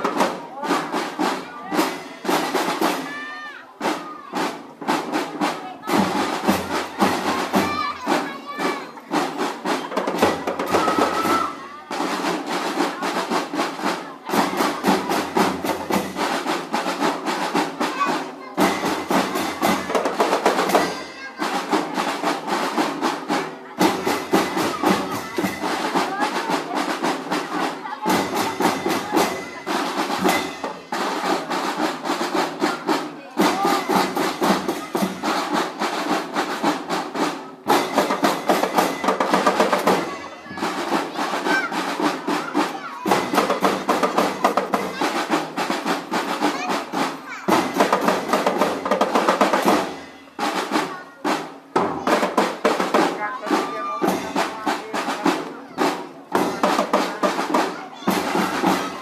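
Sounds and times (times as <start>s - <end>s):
snare drums playing fast rhythm: 0.0s - 59.0s.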